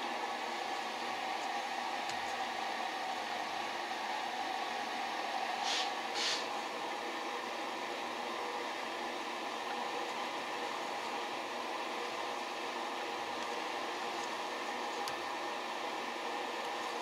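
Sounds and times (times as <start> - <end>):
fan-like workshop noise: 0.0 - 17.0.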